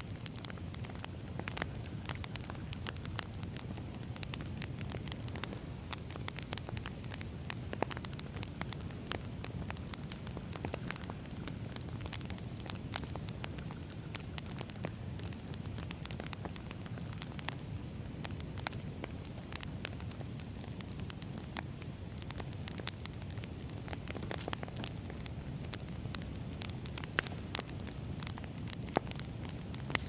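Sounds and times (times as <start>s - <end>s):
fire crackling and popping: 0.0s - 30.0s
low rumble of flame: 0.0s - 30.0s.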